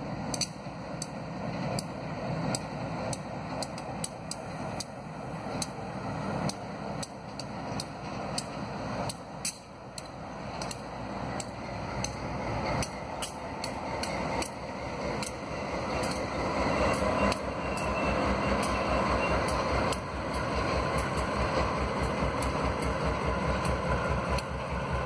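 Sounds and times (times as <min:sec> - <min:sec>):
diesel locomotive engine rumbling: 0:00.0 - 0:25.0
wheels clicking over rail joints: 0:00.0 - 0:25.0.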